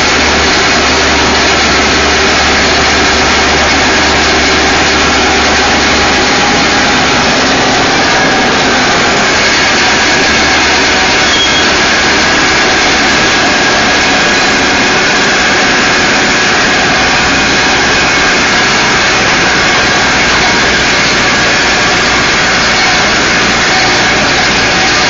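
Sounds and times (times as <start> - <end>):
diesel engine running: 0.0 - 25.0
faint high whine: 0.0 - 25.0.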